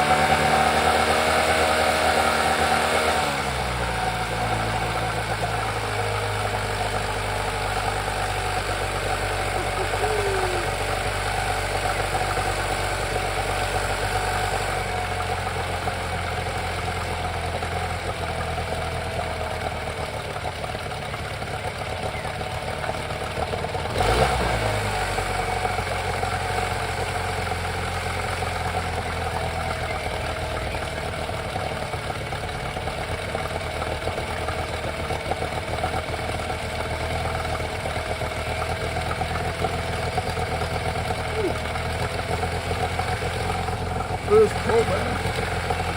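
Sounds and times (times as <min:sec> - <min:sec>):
outboard motor idling: 0:00.0 - 0:45.9.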